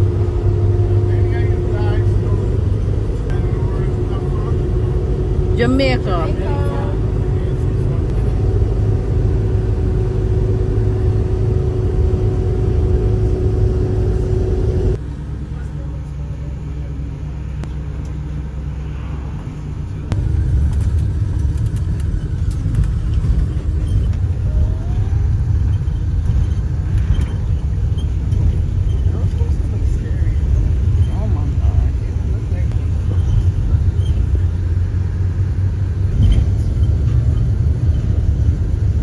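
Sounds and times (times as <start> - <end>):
vehicle rumble on road: 0.0 - 39.0.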